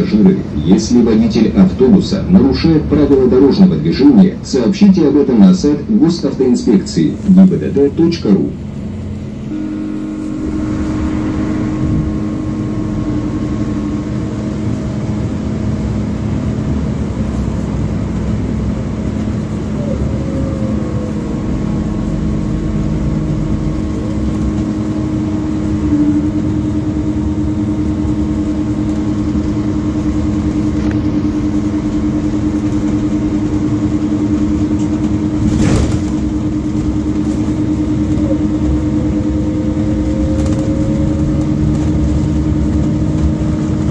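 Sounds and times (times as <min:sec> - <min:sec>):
bus engine drone inside cabin: 0:00.0 - 0:43.9.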